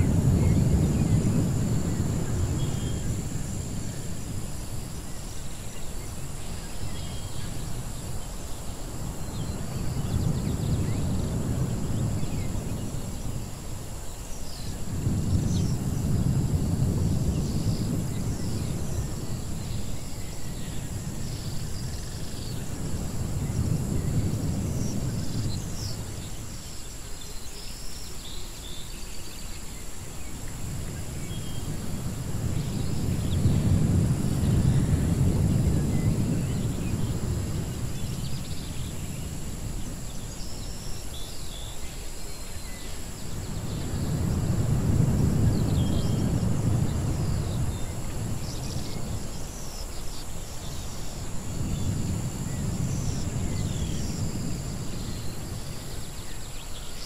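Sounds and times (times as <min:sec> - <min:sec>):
low wind rumble: 0:00.0 - 0:57.0.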